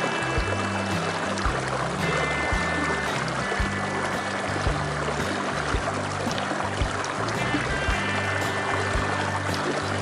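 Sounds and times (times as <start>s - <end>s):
calm melody of low notes: 0.0s - 10.0s
soft low beats: 0.0s - 10.0s
stream water rushing: 0.0s - 10.0s.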